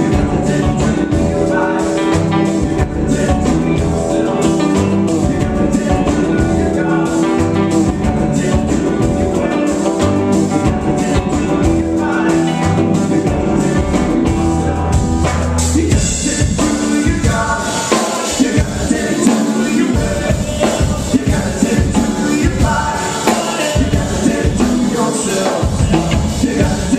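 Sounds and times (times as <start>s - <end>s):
drum kit: 0.0s - 26.9s
electric bass: 0.0s - 26.9s
electric guitars: 0.0s - 26.9s
voices singing: 0.0s - 26.9s.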